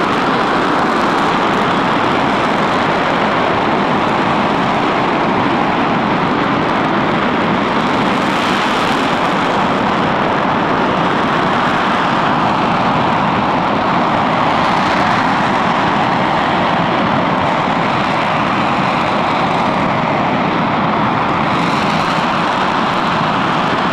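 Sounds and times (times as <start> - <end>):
rocket engine firing: 0.0 - 23.9.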